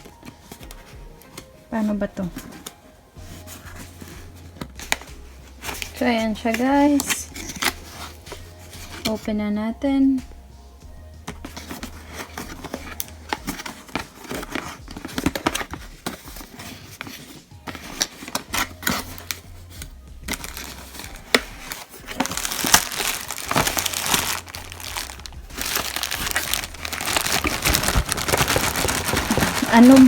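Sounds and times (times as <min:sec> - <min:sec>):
packaging crinkling and rustling: 0:02.1 - 0:09.3, 0:11.3 - 0:30.0.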